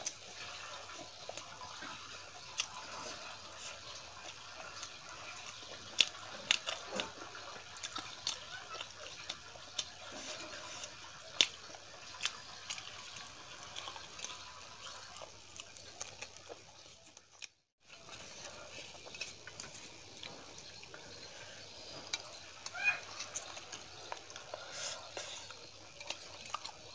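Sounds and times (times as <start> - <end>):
chewing: 0.0 - 26.9.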